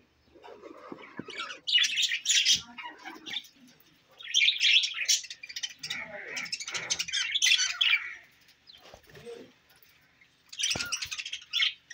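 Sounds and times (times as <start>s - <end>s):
budgerigars chattering and chirping: 0.2s - 9.1s, 9.8s - 11.9s.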